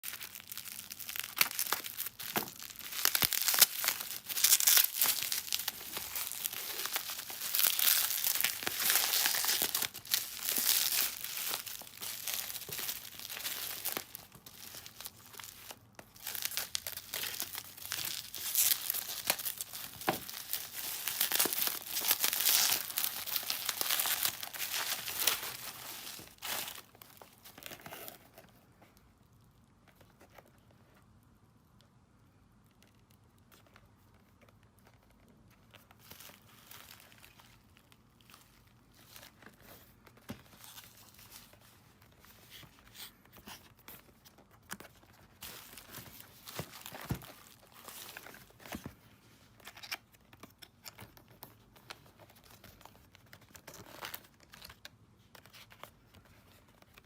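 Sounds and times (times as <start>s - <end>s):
packaging crinkling and tearing: 0.0s - 28.6s, 34.4s - 57.0s.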